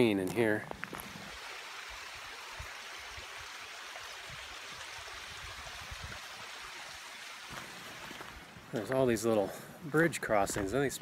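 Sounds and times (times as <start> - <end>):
creek water rushing: 0.0 - 10.4.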